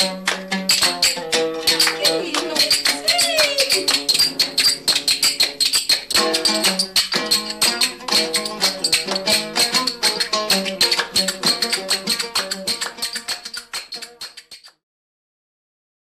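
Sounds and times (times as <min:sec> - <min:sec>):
plucked oud: 0:00.0 - 0:14.8.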